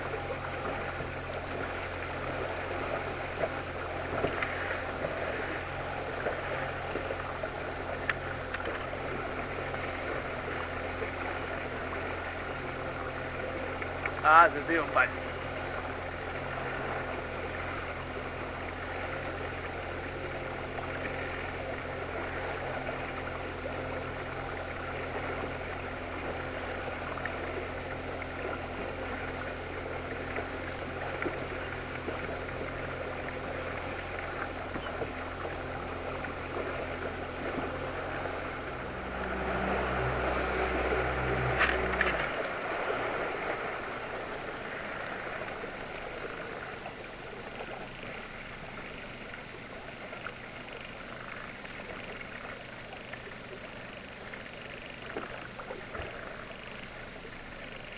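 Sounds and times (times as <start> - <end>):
outboard motor running: 0.0 - 57.9
water splashing along hull: 0.0 - 57.9.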